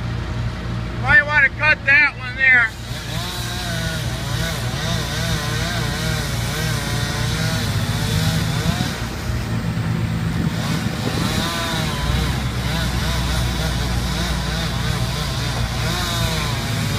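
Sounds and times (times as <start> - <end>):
wood chipper engine running: 0.0 - 16.9.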